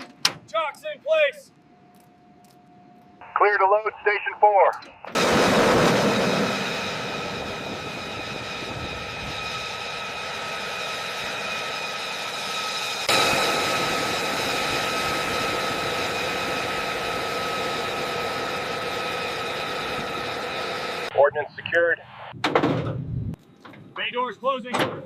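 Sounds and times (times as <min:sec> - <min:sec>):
aircraft turbine engine whine: 0:00.9 - 0:21.7.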